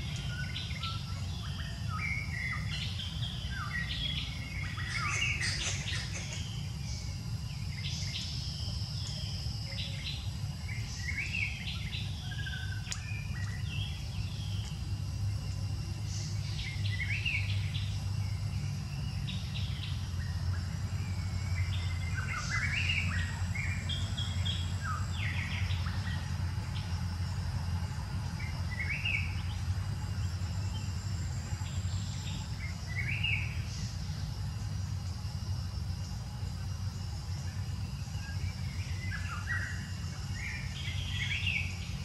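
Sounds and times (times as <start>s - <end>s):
wild birds chirping: 0.0s - 42.0s.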